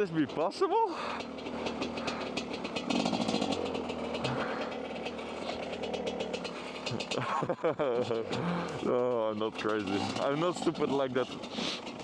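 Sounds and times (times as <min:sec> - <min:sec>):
dirtbike engine chugging: 0:00.0 - 0:12.0.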